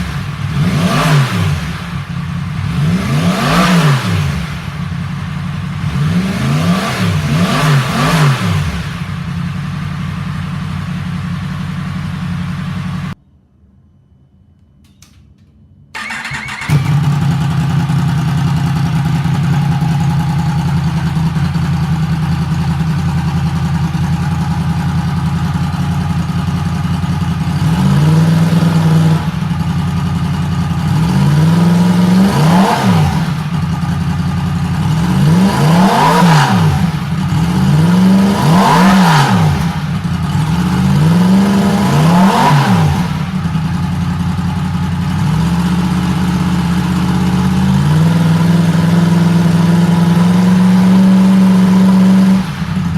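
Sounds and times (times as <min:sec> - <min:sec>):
motorcycle engine starting and revving: 0:00.0 - 0:13.2, 0:15.9 - 0:52.9.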